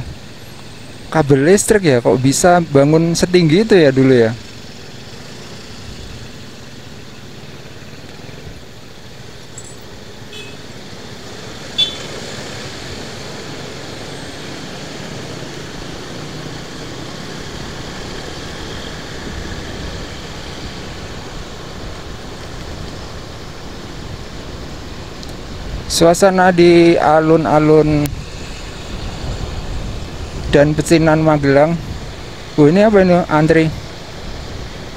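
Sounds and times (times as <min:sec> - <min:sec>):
motorcycle and car engines: 0:00.0 - 0:34.9.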